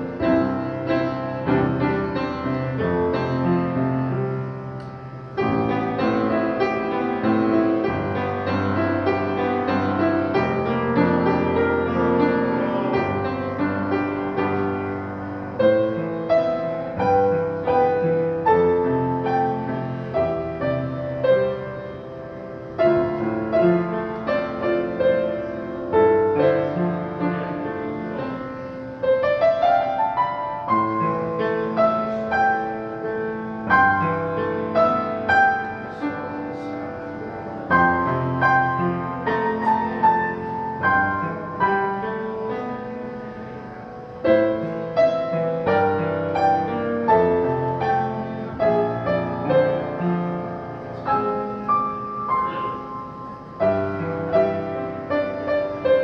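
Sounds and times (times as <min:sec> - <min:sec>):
solo piano: 0:00.0 - 0:56.0.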